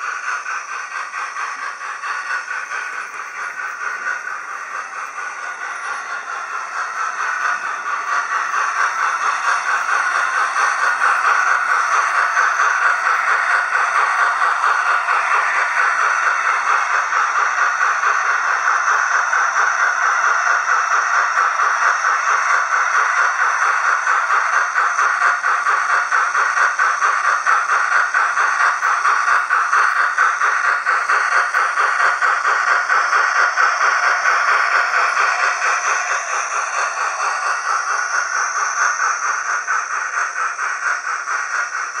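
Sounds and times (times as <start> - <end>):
model train wheels rattling on rails: 0.0 - 42.0.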